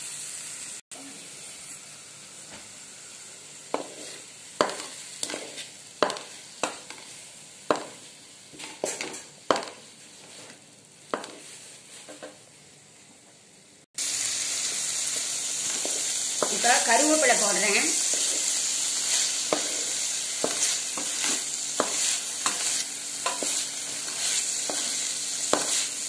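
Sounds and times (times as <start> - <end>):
vegetables sizzling: 0.0 - 26.0.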